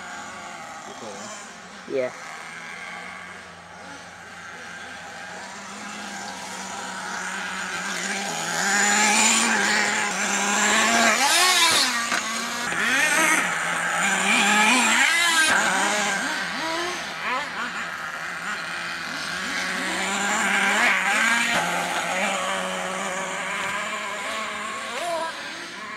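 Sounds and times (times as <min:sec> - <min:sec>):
small engine revving: 0:00.0 - 0:25.9.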